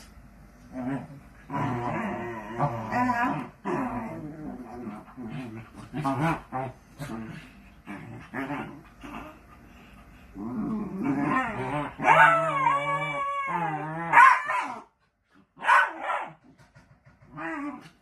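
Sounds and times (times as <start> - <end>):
dogs growling and whining: 0.6 - 15.0, 17.1 - 18.0.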